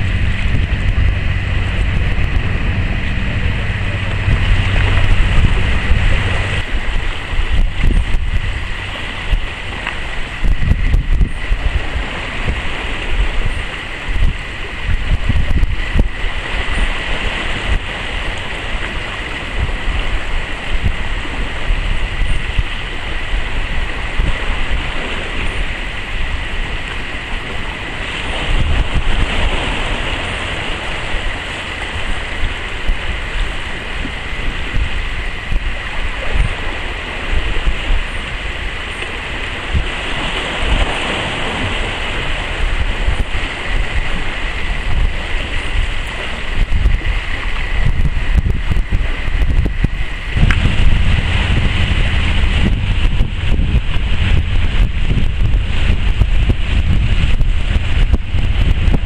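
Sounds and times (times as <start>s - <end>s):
sea surf on rocks: 0.0s - 59.0s
wind buffeting microphone: 0.0s - 59.0s.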